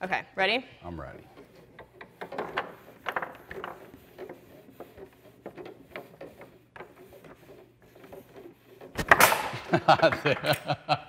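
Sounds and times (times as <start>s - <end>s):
foosball players knocking and clacking: 1.2s - 10.7s.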